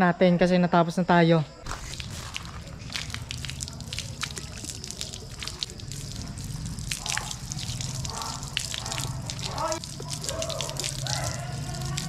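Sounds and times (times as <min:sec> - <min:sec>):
water dripping onto concrete: 0:01.6 - 0:12.0.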